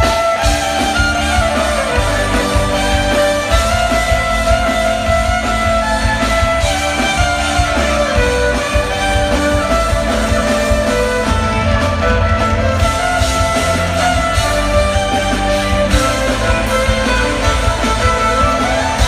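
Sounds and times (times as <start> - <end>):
band playing through loudspeakers: 0.0 - 19.0
electric violin melody: 0.0 - 19.0.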